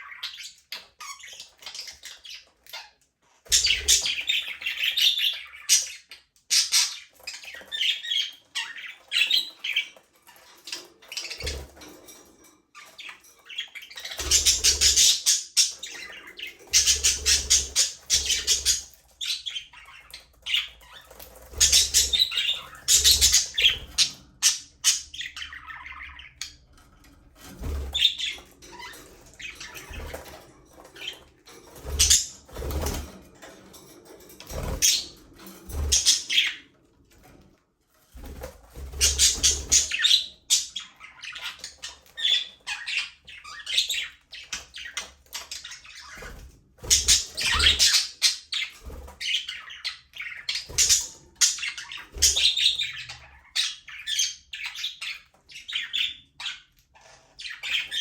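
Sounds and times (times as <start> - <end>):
budgerigars chattering and squawking: 0.0 - 12.2, 12.8 - 36.8, 38.2 - 58.0.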